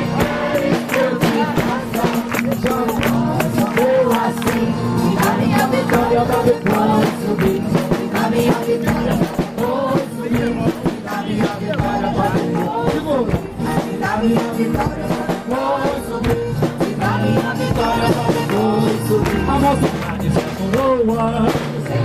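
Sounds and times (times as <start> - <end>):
steady percussion beat: 0.0 - 22.0
voices singing a chorus: 0.0 - 22.0.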